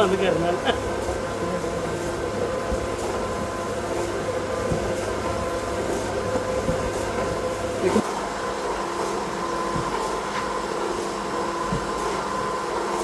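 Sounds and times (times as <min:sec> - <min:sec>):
machinery humming and whining: 0:00.0 - 0:13.0.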